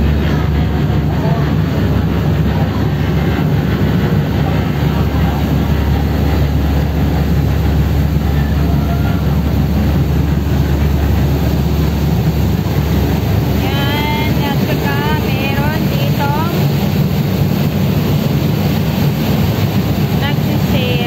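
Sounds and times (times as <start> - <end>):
boat engine droning: 0.0 - 21.0
rush of water and wind: 0.0 - 21.0.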